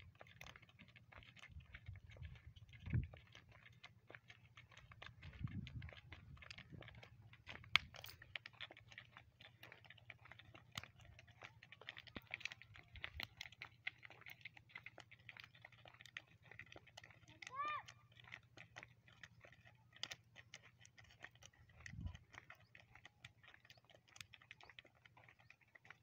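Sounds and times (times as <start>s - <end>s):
footsteps on asphalt: 0.0s - 26.0s
hooves on asphalt: 0.0s - 26.0s.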